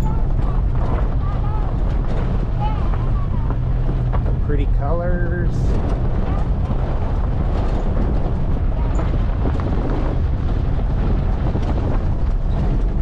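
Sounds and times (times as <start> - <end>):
truck driving rumble: 0.0 - 13.0.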